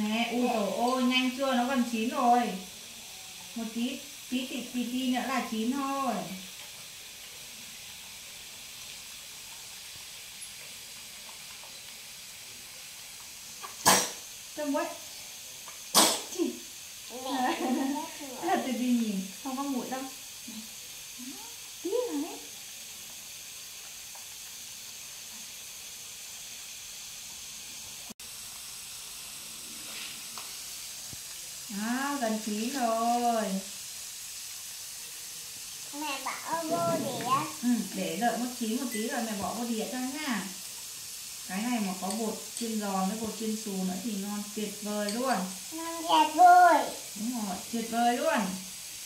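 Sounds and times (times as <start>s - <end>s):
potato sticks sizzling in oil: 0.0s - 49.0s.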